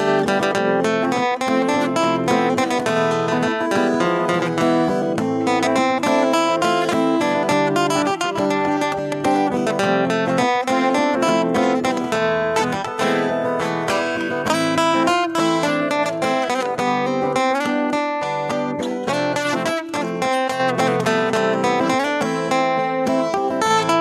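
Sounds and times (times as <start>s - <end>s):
acoustic guitar plucked and strummed: 0.0s - 24.0s.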